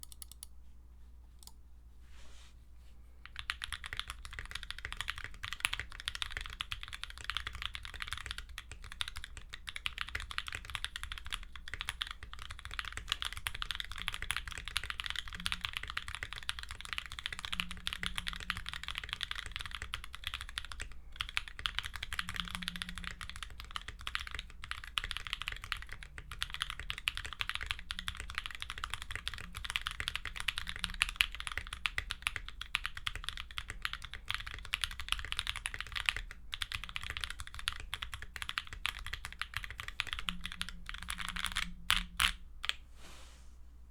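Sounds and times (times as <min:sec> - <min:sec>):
fast typing on mechanical keyboard: 0:03.2 - 0:42.8.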